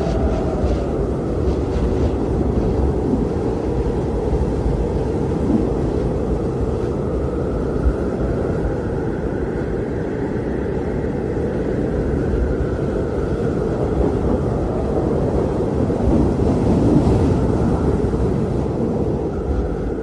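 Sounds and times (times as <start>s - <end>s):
blizzard wind blowing: 0.0s - 20.0s.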